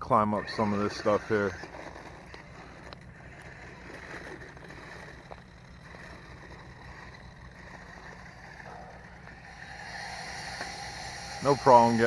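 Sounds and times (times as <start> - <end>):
toy truck motor whirring: 0.0 - 12.0.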